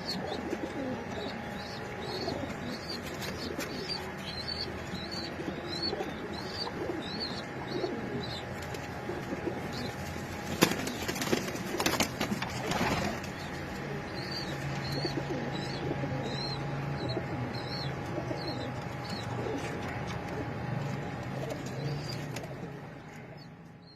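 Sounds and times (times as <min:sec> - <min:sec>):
pigeons cooing: 0:00.0 - 0:23.5.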